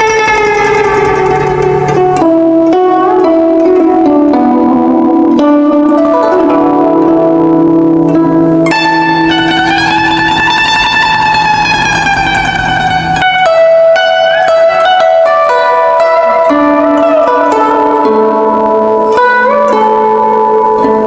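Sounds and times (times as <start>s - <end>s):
plucked zither melody: 0.0s - 21.0s.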